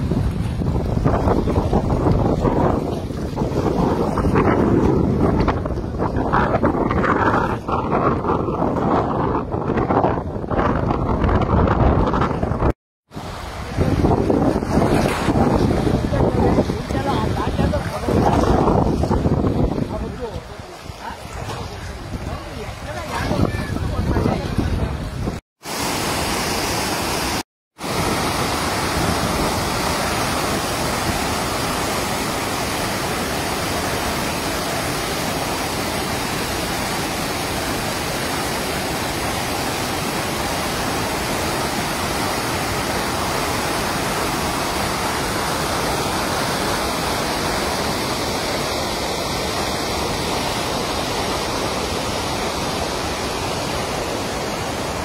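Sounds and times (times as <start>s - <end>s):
floodwater rushing and churning: 0.0s - 55.0s.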